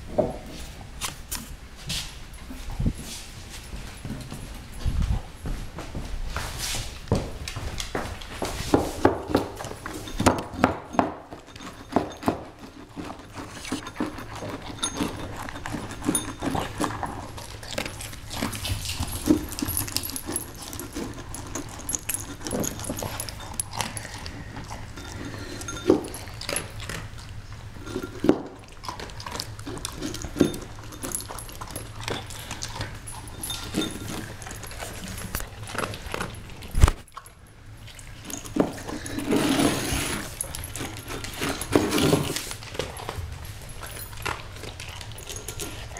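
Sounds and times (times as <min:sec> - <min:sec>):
dog eating from bowl: 0:07.0 - 0:45.9.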